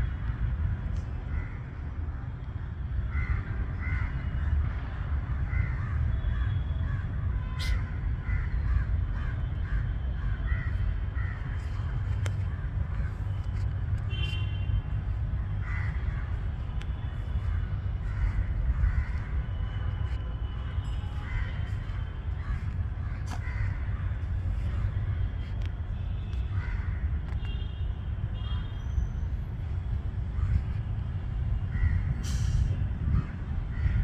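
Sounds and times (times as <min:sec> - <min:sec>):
steady low rumble: 0:00.0 - 0:28.3, 0:29.2 - 0:34.0.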